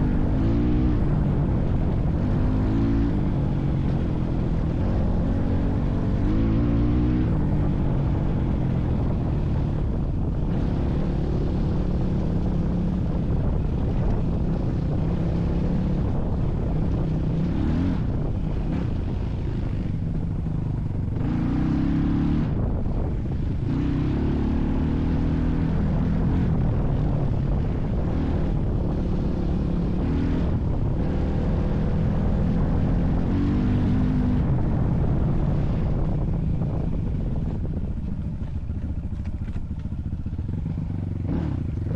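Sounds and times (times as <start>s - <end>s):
vehicle engine revving while driving: 0.0s - 41.9s.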